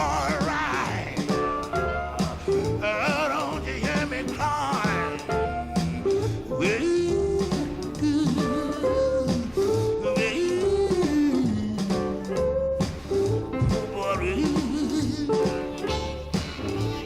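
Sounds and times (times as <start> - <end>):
electric blues band playing: 0.0 - 17.0
person singing: 0.0 - 17.0.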